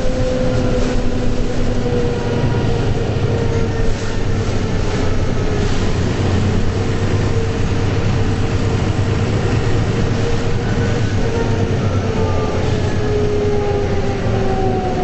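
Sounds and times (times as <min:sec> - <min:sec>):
bus engine and road drone: 0:00.0 - 0:15.0.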